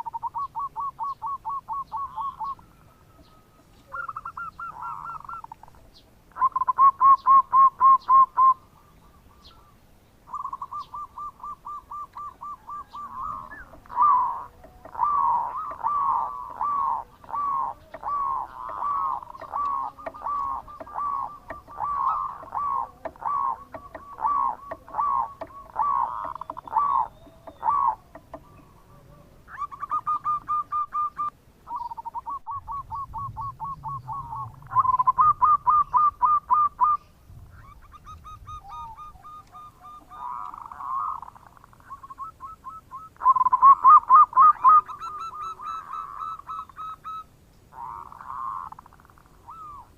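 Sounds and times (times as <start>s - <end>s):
dove cooing: 0.0s - 9.7s, 10.3s - 49.9s.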